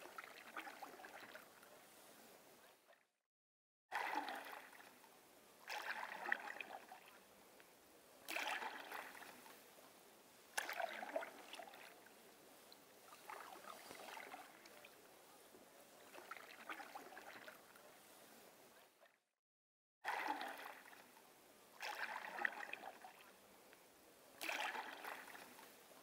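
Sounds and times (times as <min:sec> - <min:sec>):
paddle strokes splashing water: 0:00.0 - 0:02.9, 0:03.9 - 0:07.2, 0:08.2 - 0:18.8, 0:20.1 - 0:21.2, 0:21.8 - 0:23.8, 0:24.4 - 0:26.0.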